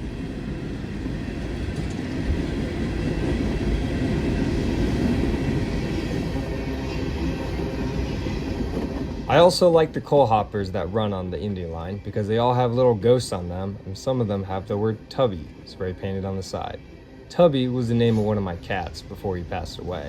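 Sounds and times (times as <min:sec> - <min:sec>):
train wheels rumbling on rail: 0:00.0 - 0:16.8.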